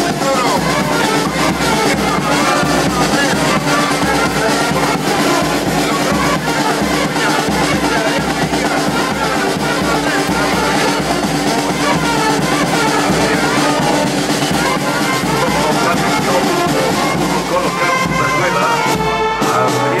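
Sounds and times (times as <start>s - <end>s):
brass band playing: 0.0s - 20.0s
crowd voices: 0.0s - 20.0s
drum beat: 0.0s - 20.0s.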